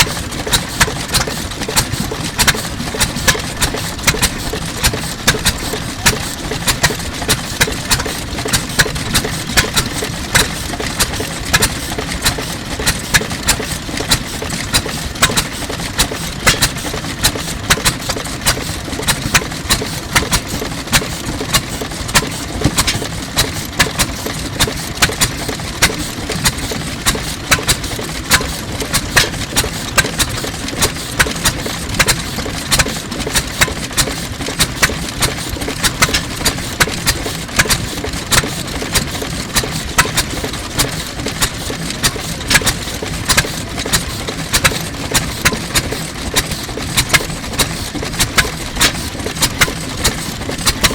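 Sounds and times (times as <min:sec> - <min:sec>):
stationary engine idling: 0:00.0 - 0:50.9.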